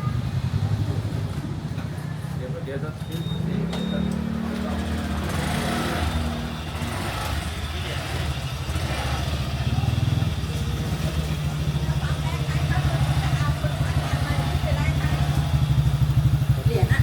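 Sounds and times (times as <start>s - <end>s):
people talking: 0.0s - 8.3s, 9.0s - 17.0s
vehicle engine rumbling: 0.0s - 17.0s.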